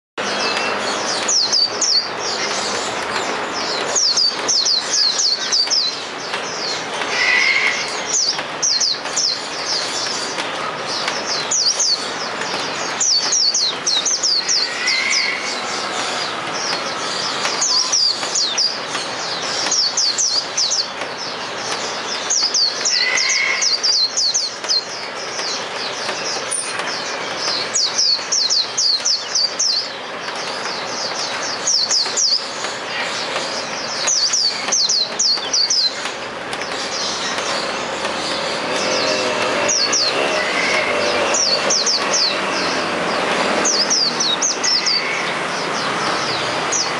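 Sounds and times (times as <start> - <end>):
bird chirping song: 0.2 - 46.9.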